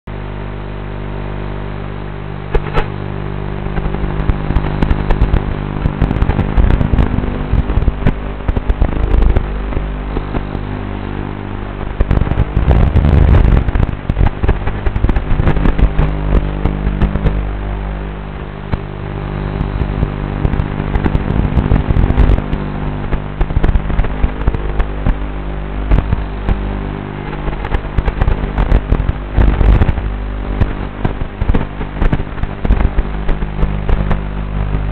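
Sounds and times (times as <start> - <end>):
crackles and pops: 0.1 - 34.9
quadcopter buzzing: 3.8 - 33.4.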